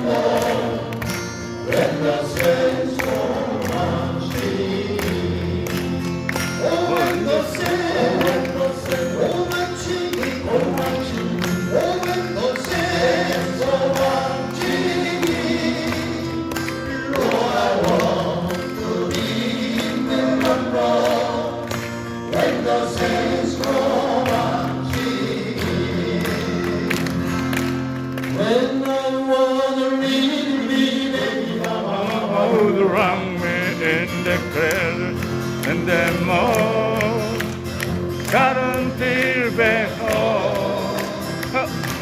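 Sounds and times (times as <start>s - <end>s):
male vocal quartet singing: 0.0s - 27.6s, 28.2s - 42.0s
strummed acoustic guitars: 0.0s - 42.0s.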